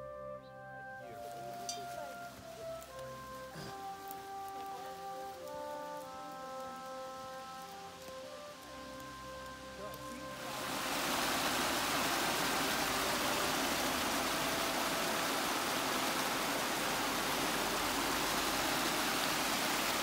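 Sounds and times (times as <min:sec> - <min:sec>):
creek rushing over rocks: 0:01.1 - 0:20.0.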